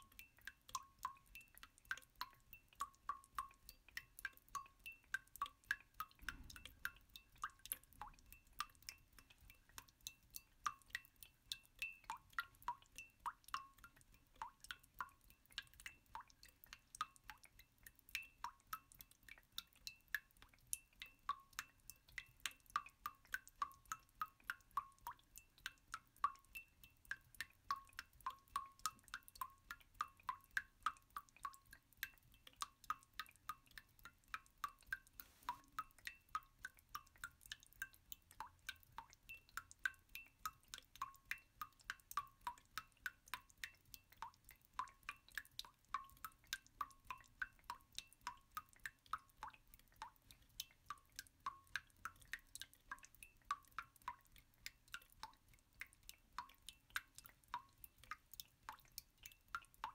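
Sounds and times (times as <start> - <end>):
water drop plinks: 0.0 - 59.9.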